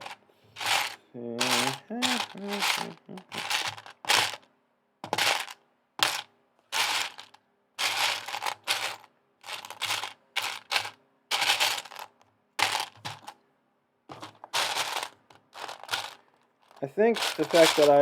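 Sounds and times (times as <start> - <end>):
plastic bricks clattering: 0.0 - 4.4, 5.1 - 13.4, 14.1 - 18.0.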